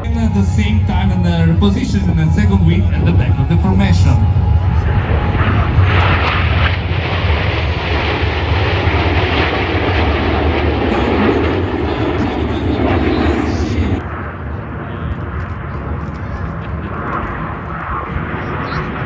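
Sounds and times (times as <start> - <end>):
jets flying past: 0.0 - 19.0.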